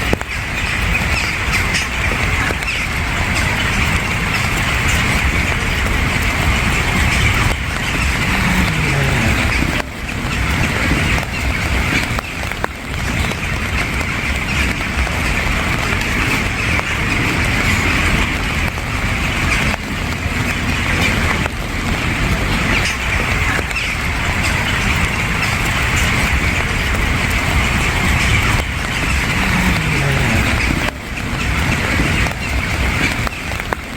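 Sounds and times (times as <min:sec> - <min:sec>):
birds calling: 0:00.0 - 0:33.9
steady rain falling: 0:00.0 - 0:33.9.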